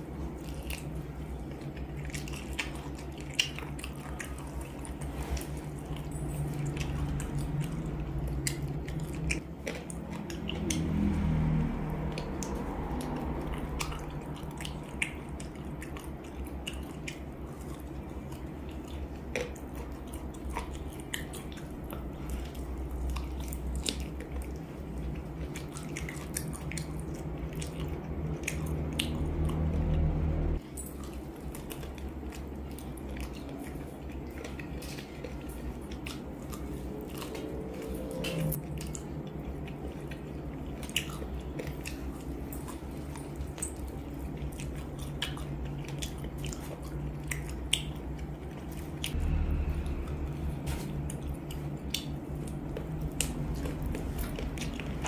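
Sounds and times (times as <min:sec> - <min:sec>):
steady low hum: 0:00.0 - 0:55.0
wet chewing and biting: 0:00.0 - 0:55.0.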